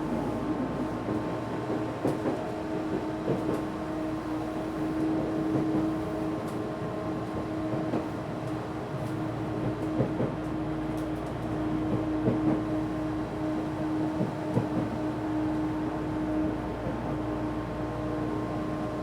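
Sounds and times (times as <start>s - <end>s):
train rolling noise: 0.0s - 19.0s
train steady hum: 0.0s - 19.0s.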